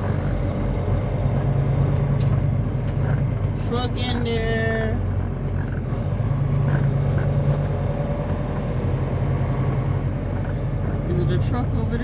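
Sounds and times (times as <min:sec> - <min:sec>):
truck diesel engine humming: 0:00.0 - 0:12.0.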